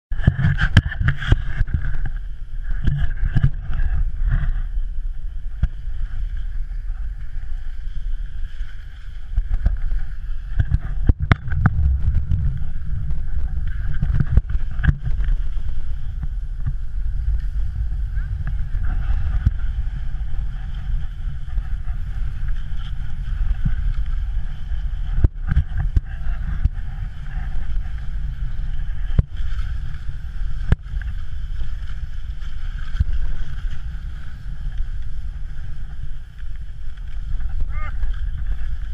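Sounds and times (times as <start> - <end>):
wind buffeting microphone: 0.1 - 38.9.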